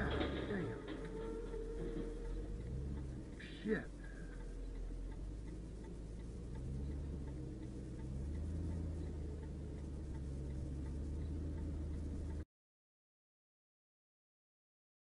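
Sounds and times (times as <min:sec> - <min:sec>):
light regular ticking: 0:00.0 - 0:12.4
engine and road hum: 0:00.0 - 0:12.5.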